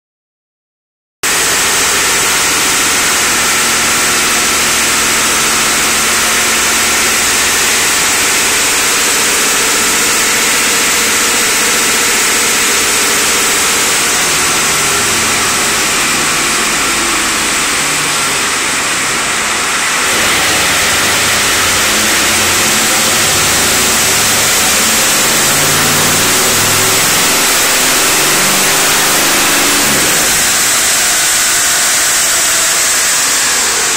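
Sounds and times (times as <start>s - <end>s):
diesel engine running loud: 1.2s - 33.9s.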